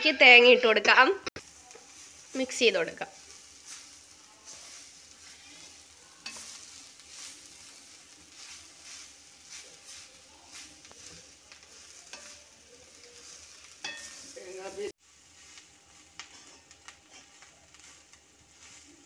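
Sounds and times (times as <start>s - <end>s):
soft sizzle: 0.0s - 19.0s
metal spatula scraping pan: 3.0s - 19.0s.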